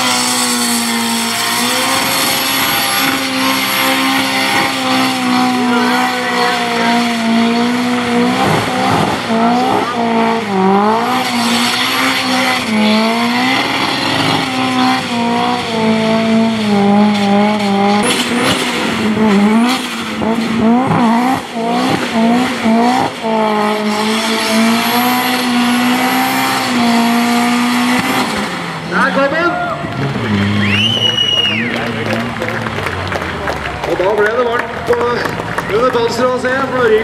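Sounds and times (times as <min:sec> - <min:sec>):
car engine at high revs: 0:00.0 - 0:37.0.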